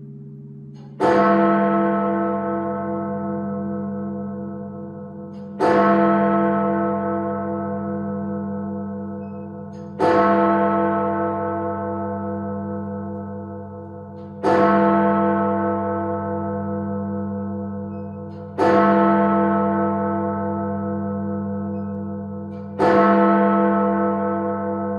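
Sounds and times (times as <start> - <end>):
heavy bell tolling: 0.0 - 24.9.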